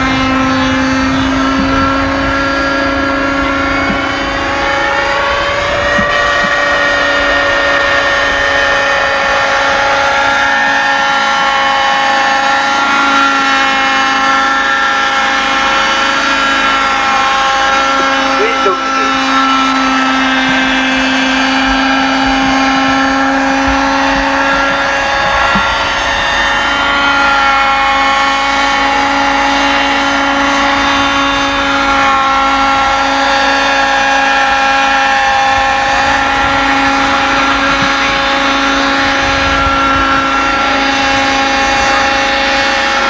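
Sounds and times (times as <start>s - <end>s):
model helicopter buzzing: 0.0s - 43.0s.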